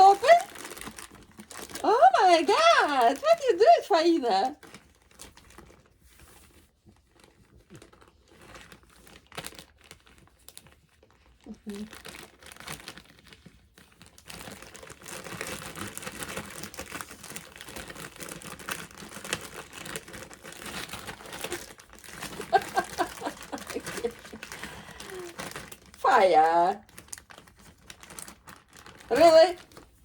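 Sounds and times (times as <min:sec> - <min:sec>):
bag crinkling and rustling: 0:00.0 - 0:30.0.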